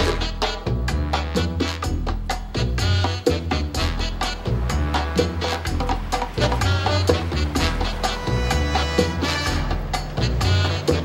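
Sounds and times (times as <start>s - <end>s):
film music with quick beat: 0.0s - 11.0s.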